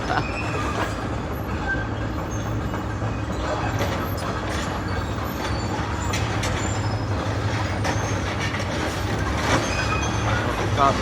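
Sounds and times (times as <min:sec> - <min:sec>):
diesel engine rumble: 0:00.0 - 0:11.0
faint high squeaks and clicks: 0:01.6 - 0:10.6.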